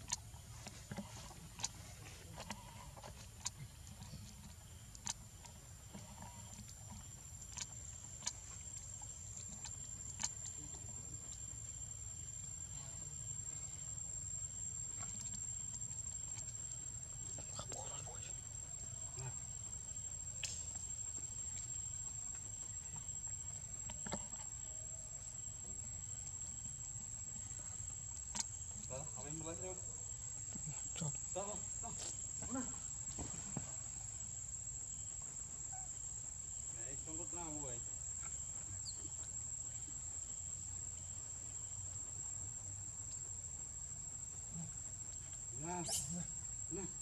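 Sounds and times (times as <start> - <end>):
high insect trill: 5.8 - 47.0.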